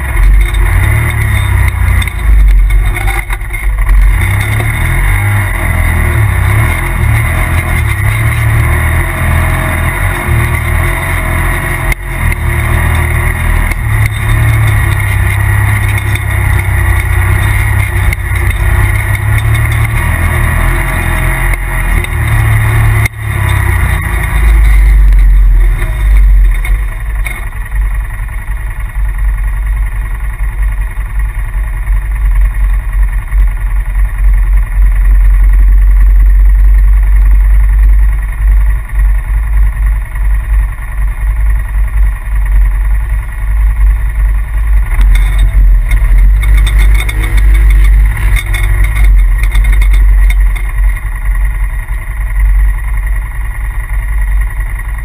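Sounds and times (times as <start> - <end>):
engine running with deep rumble: 0.0 - 55.0.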